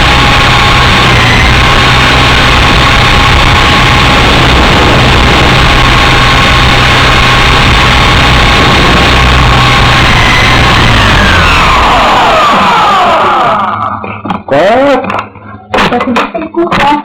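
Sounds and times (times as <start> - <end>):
helicopter rotor and motor: 0.0 - 13.8
steady high whine: 0.0 - 16.8.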